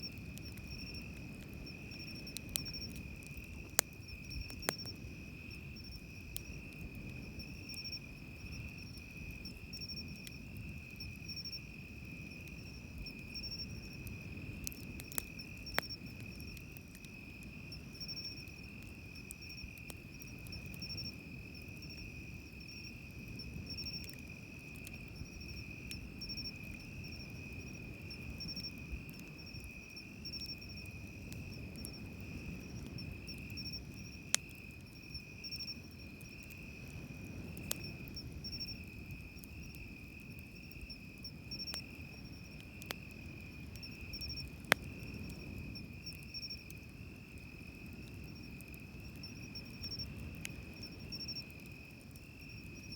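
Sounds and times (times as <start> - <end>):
campfire crackling pops: 0.0 - 52.9.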